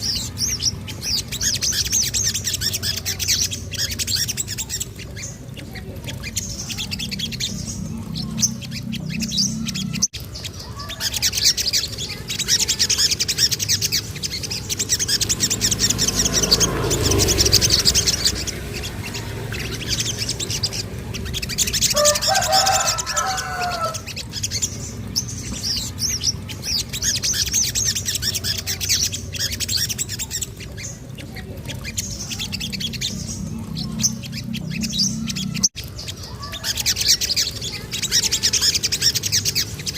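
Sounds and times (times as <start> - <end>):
bird chattering trills: 0.0 - 39.9
bird warbling phrase: 0.0 - 39.9.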